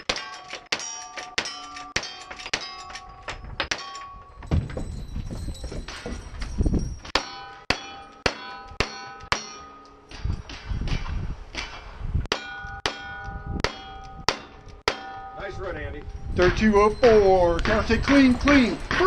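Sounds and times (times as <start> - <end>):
steel target clanging: 0.0 - 19.0.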